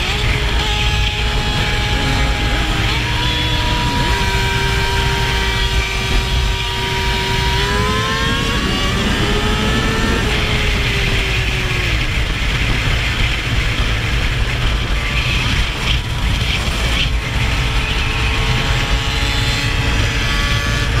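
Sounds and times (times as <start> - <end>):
motorcycle engine running: 0.0 - 21.0
wind rush: 0.0 - 21.0.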